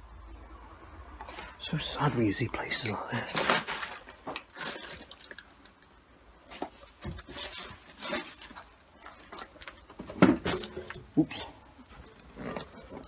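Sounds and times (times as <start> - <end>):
soft crunches and rustles: 1.2 - 13.0.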